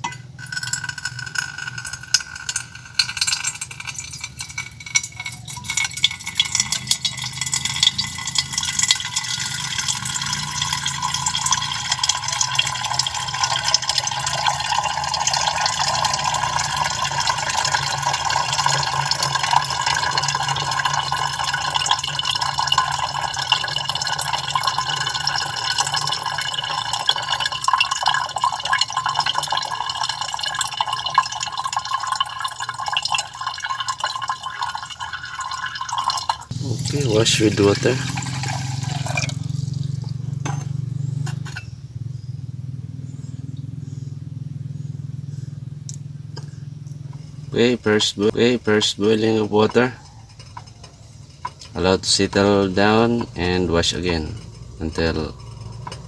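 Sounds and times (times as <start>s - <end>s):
liquid pouring into glass flask: 0.4s - 40.2s, 47.5s - 56.0s.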